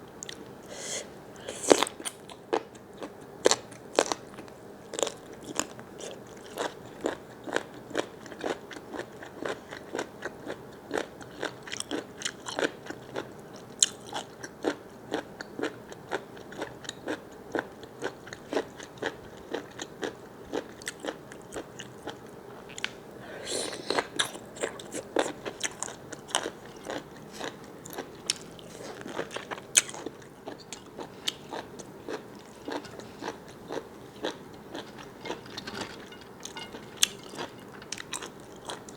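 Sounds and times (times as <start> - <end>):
person chewing crunchy food: 1.5 - 22.9, 23.5 - 38.9.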